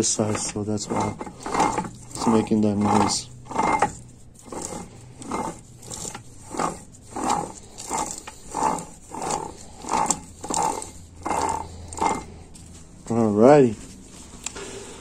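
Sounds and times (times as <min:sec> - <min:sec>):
gear whirring when rocked by hand: 0:00.0 - 0:14.6.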